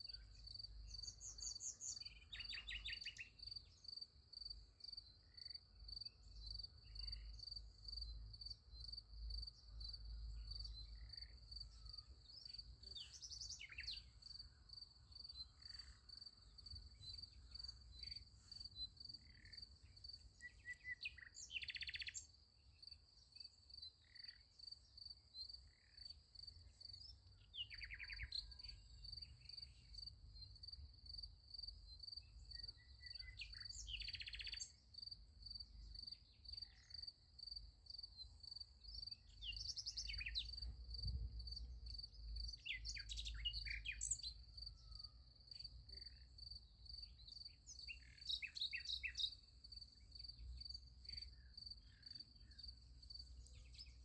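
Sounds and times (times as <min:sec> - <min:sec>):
crickets chirping: 0:03.6 - 0:54.0.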